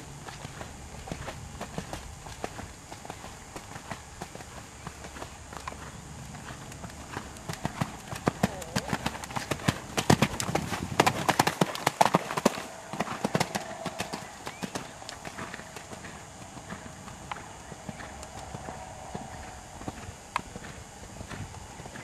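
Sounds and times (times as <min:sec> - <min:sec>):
horse hoofbeats cantering: 0:00.0 - 0:22.0.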